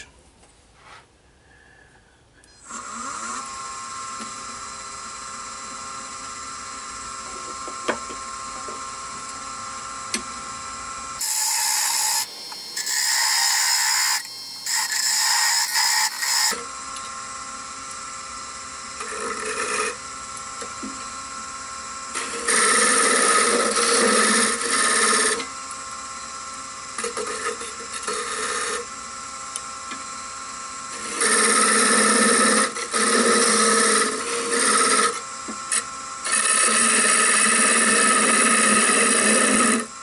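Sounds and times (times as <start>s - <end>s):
wood lathe motor whine: 2.6s - 40.0s.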